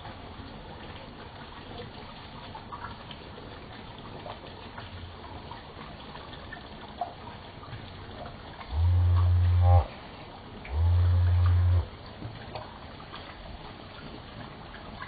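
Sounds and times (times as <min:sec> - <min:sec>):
pond water bubbling: 0:00.0 - 0:15.0.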